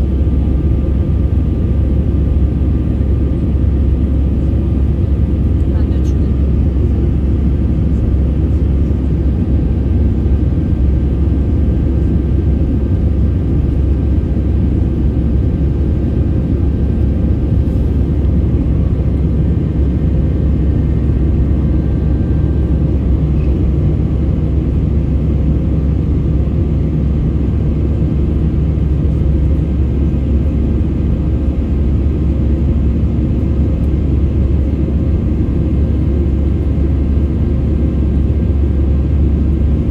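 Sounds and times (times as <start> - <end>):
jet engine rumble in cabin: 0.0 - 39.9.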